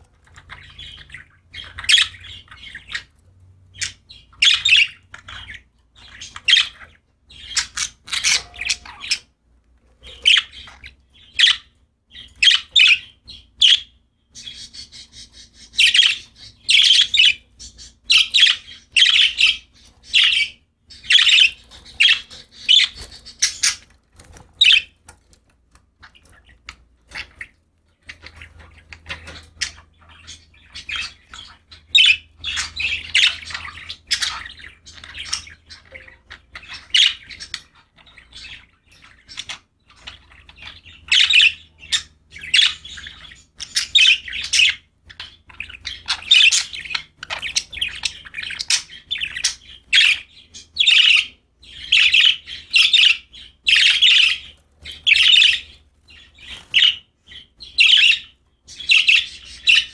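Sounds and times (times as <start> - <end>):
budgies chirping and squawking: 0.0 - 59.9.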